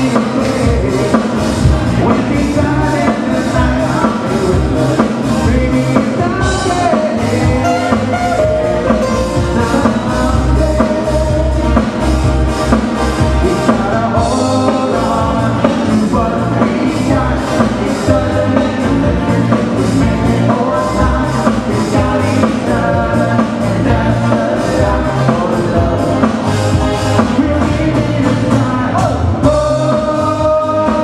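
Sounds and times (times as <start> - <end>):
live band playing: 0.0 - 31.0
person singing: 0.0 - 31.0
steady drum beat: 0.0 - 31.0.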